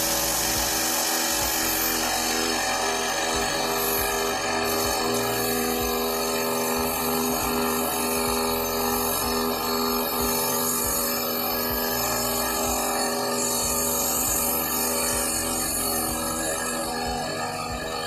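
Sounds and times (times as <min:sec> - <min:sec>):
paint spray gun hissing: 0:00.0 - 0:18.0
steady hum: 0:00.0 - 0:18.0.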